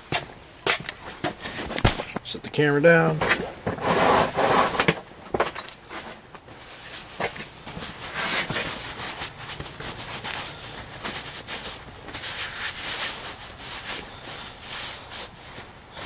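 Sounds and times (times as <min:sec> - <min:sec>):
rubbing and rustling handling noise: 0:00.0 - 0:16.0.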